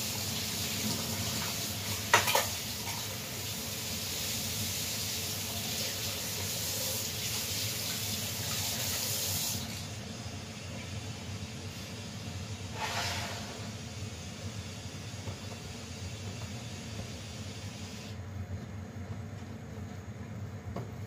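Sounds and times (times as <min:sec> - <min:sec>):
saucepan boiling: 0:00.0 - 0:21.0.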